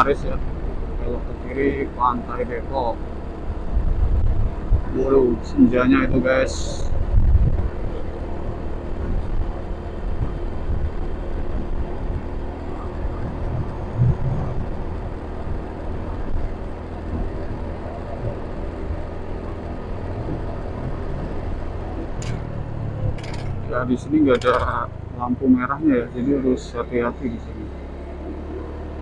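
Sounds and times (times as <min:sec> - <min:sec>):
motorcycle engine cruising: 0:00.0 - 0:29.0
wind and road noise: 0:00.0 - 0:29.0.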